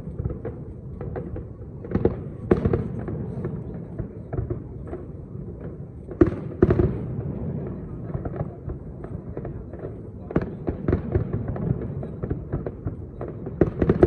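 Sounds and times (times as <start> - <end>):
firework crackle: 0.0 - 14.0.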